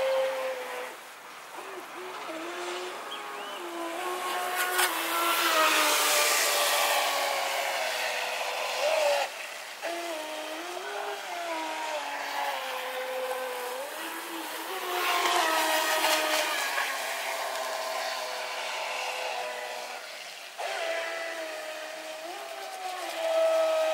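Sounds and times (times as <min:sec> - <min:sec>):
model boat motor whining: 0:00.0 - 0:23.9.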